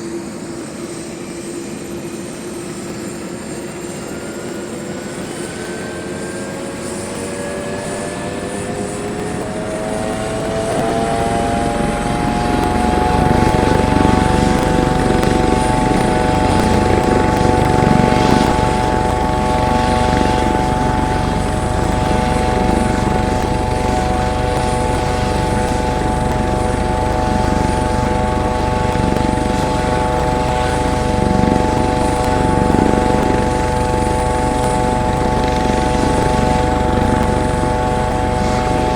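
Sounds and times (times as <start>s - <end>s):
helicopter engine whine: 0.0s - 38.9s
helicopter rotor beating: 0.0s - 38.9s.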